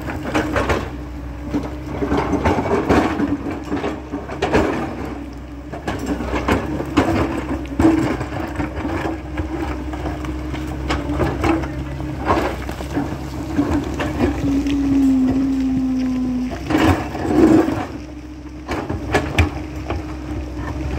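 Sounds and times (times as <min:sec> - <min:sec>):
excavator engine and hydraulics whining: 0:00.0 - 0:20.9.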